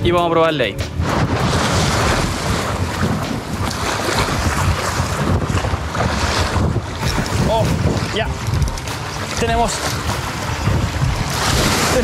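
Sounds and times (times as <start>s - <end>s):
wind buffeting microphone: 0.0s - 12.0s
surf on rocks: 0.7s - 12.0s.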